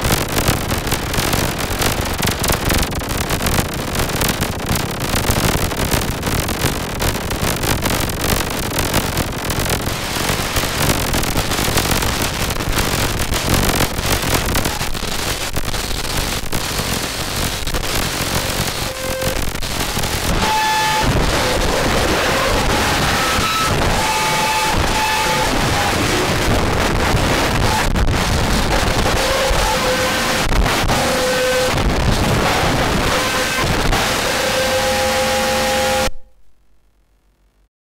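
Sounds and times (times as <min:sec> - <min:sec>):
crackling synthesizer noise: 0:00.0 - 0:37.7.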